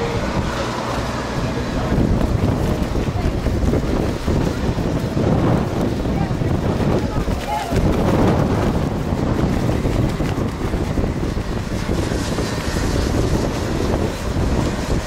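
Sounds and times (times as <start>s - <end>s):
kart engines racing: 0.0s - 15.0s
wind noise on microphone: 0.0s - 15.0s.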